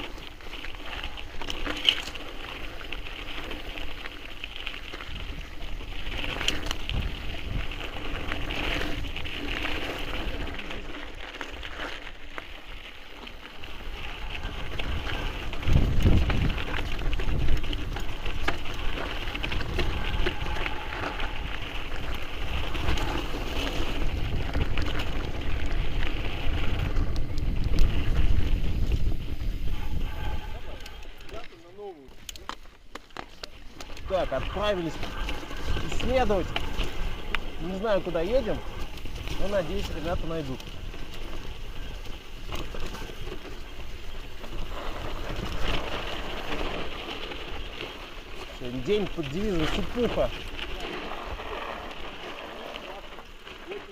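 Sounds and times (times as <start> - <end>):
bike tyres crunching on rocks: 0.0 - 53.9
stones and bike rattling: 0.0 - 53.9
wind buffeting microphone: 4.5 - 10.7, 13.6 - 31.5, 33.9 - 53.6.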